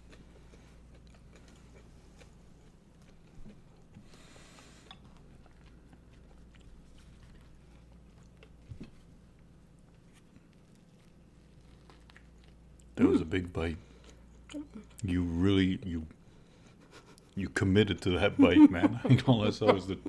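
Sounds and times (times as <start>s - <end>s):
soft chewing: 0.0s - 18.2s.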